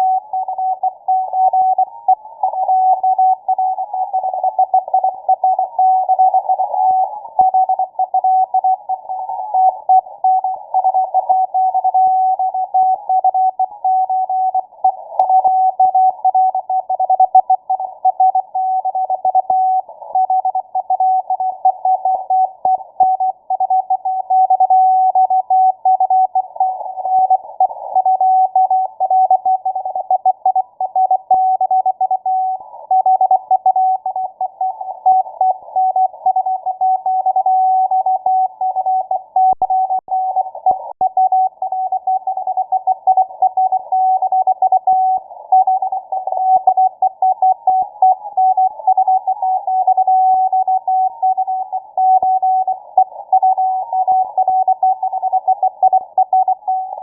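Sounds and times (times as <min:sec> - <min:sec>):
faint lower morse signal: 0:00.0 - 0:57.0.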